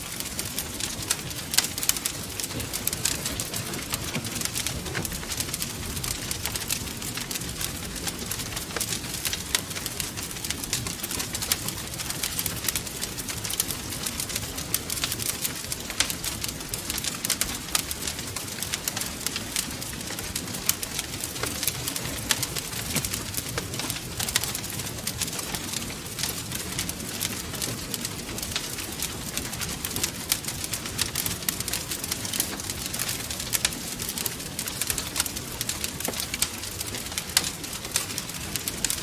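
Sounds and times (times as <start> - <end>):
fire pops and snaps: 0.0 - 39.0
wood fire crackling: 0.0 - 39.0.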